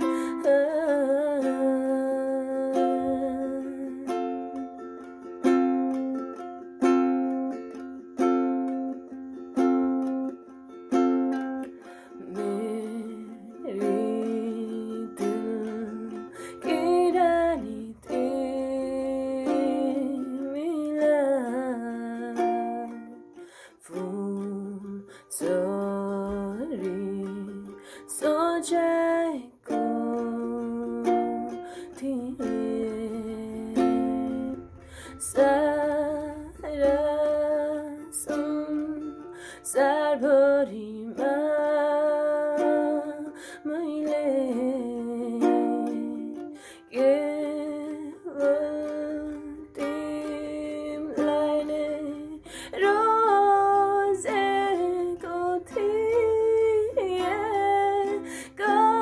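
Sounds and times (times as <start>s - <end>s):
person singing: 0.0s - 59.0s
ukulele strumming: 0.0s - 59.0s.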